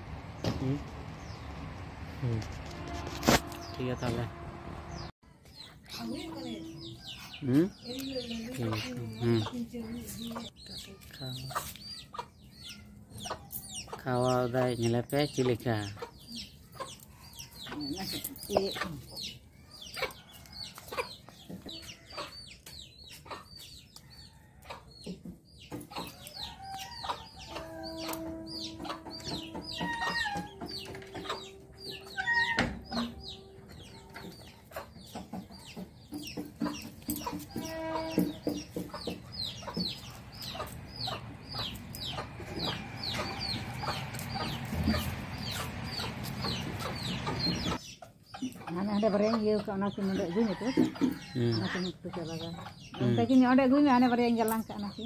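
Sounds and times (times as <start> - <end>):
fowl chirping and calling: 2.4 - 55.0.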